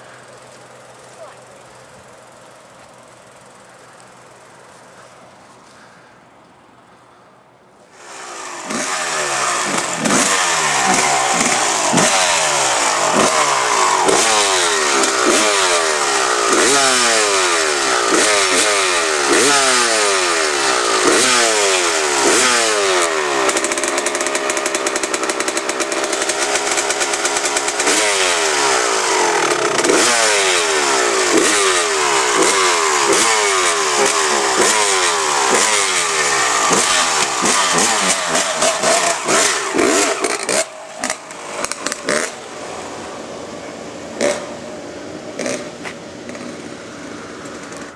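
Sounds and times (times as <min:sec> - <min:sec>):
engine revving: 0:08.0 - 0:47.9.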